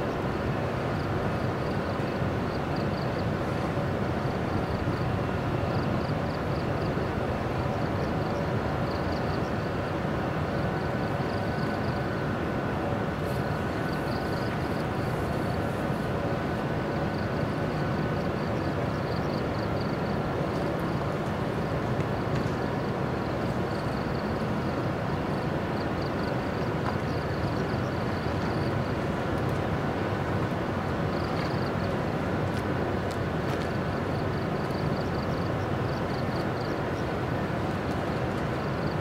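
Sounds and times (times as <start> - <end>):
electric locomotive humming: 0.0 - 39.0
insects chirping: 0.9 - 12.3, 13.2 - 21.8, 22.5 - 29.2, 29.8 - 32.0, 33.7 - 39.0.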